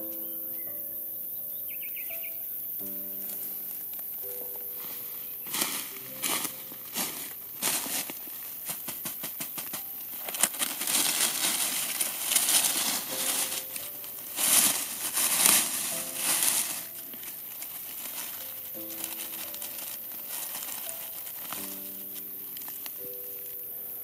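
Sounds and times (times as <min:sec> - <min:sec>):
dry leaves crackling under hand: 0:01.7 - 0:24.0.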